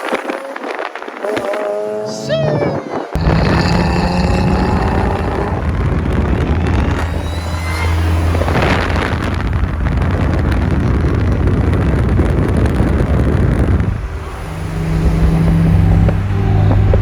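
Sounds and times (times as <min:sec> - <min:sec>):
wind and road noise: 0:00.0 - 0:17.0
car engine running: 0:03.2 - 0:17.0.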